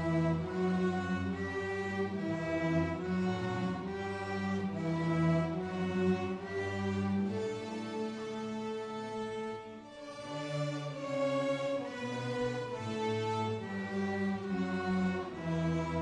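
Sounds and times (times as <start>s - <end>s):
string orchestra playing slow melody: 0.0s - 16.0s.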